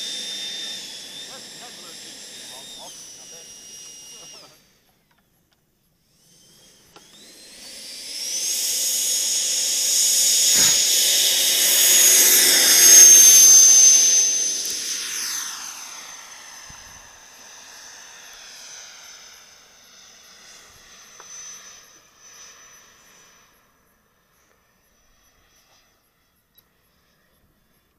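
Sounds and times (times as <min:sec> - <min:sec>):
model jet engine whine: 0:00.0 - 0:27.9.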